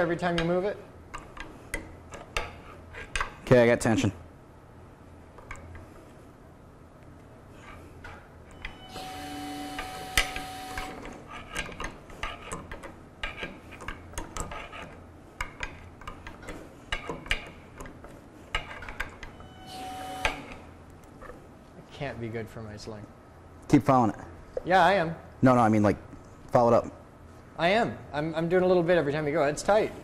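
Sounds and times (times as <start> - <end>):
faint hum: 0.0 - 17.0, 18.2 - 30.0.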